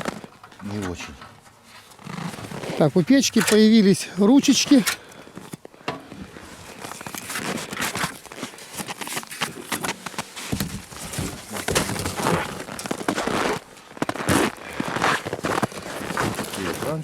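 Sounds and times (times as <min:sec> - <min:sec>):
hands rustling and clicking parts: 0:00.0 - 0:17.0.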